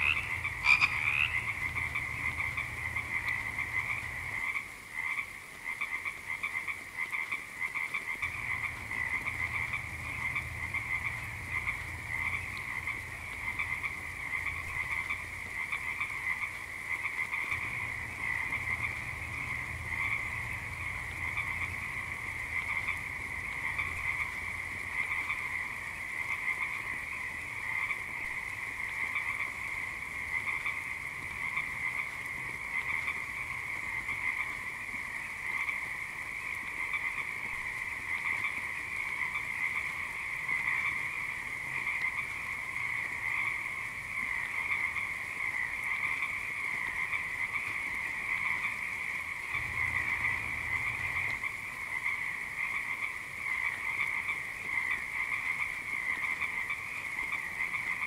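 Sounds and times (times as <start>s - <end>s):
chorus of frogs croaking: 0.0s - 58.0s.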